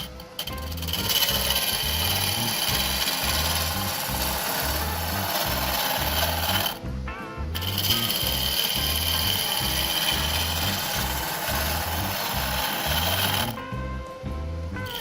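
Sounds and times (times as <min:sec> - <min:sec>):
lathe gouge scraping wood: 0:00.0 - 0:06.8, 0:07.6 - 0:13.6
background music: 0:00.0 - 0:15.0.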